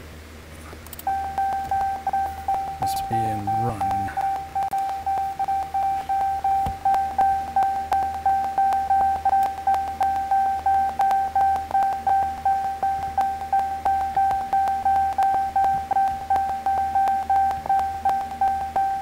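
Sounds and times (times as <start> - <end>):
warning chime beeping rapidly: 1.1 - 19.0.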